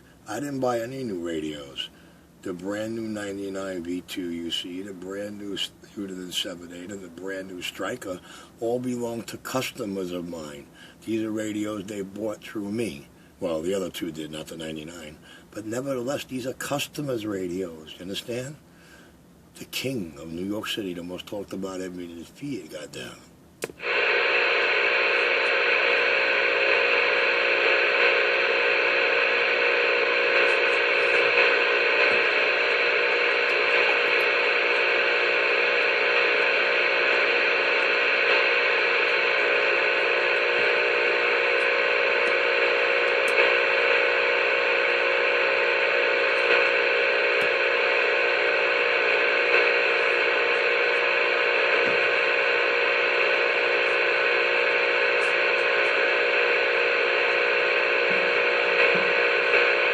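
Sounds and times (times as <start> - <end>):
radio static hiss: 0.0 - 59.9
steady radio tones: 0.0 - 59.9.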